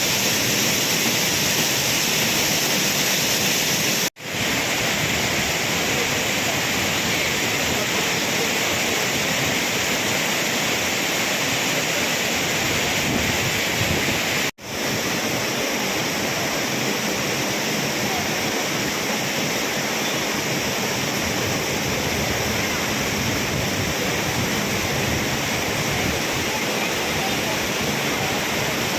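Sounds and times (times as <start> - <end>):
heavy water pouring down: 0.0 - 28.9.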